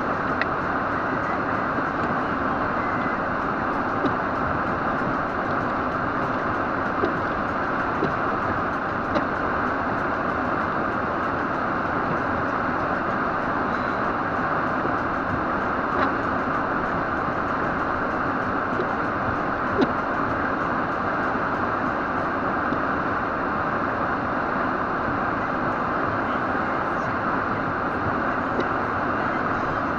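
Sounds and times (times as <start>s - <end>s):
road and wind noise in car: 0.0s - 29.9s.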